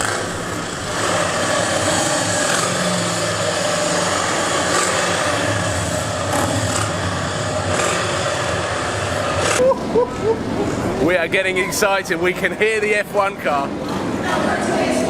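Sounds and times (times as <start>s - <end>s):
distant race car engine: 0.0s - 15.0s
motorcycle engines running: 0.0s - 15.0s.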